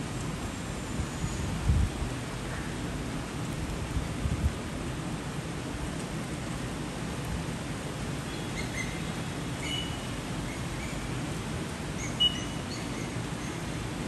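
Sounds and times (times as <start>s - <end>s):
heavy rain on trees and roofs: 0.0s - 14.0s.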